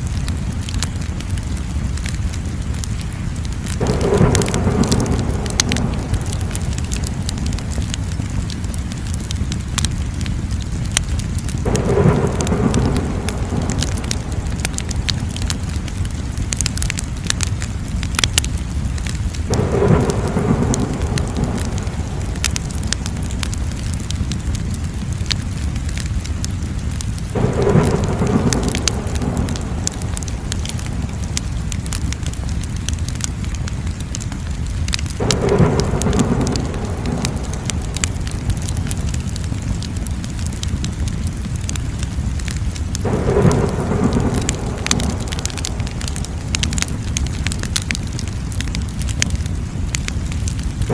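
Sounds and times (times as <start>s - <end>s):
low rumble of flames: 0.0s - 50.9s
wood fire crackling: 0.0s - 50.9s.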